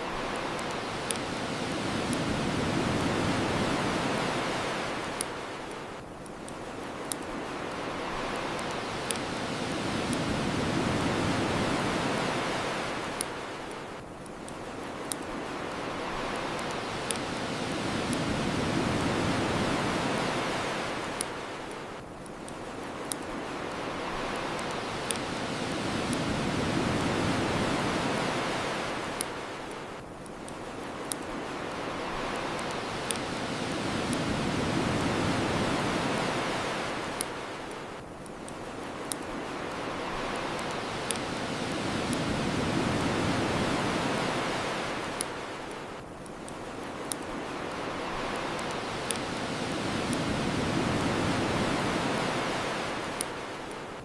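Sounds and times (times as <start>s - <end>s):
ocean surf washing on shore: 0.0s - 54.0s
bonfire popping and crackling: 0.1s - 53.3s.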